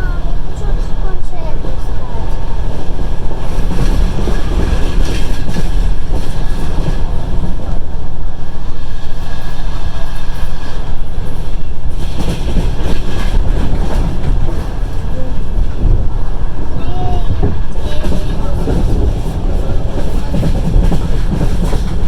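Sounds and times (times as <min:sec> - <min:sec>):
train wheels rumbling on rails: 0:00.0 - 0:22.0
wheels clattering over rail joints: 0:00.3 - 0:22.0.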